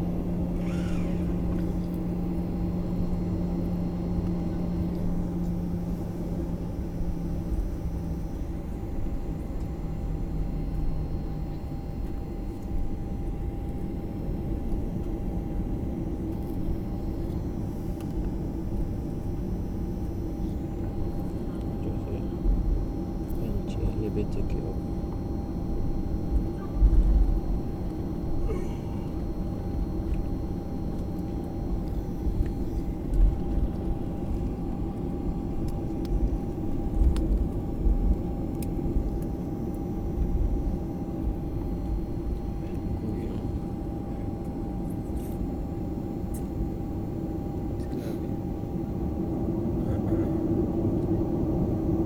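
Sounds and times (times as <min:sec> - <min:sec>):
jet engine hum and rumble: 0:00.0 - 0:52.0.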